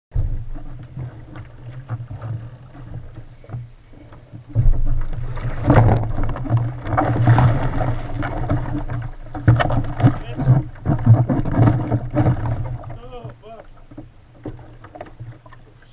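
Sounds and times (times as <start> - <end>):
water slapping against kayak hull: 0.1 - 15.9.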